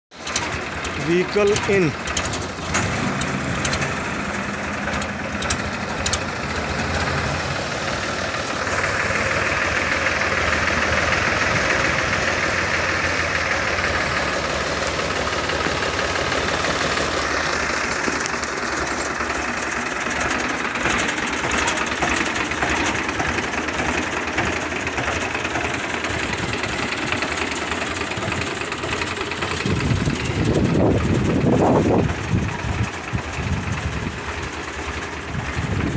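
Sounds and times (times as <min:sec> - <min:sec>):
tractor diesel engine running: 0:00.1 - 0:35.9.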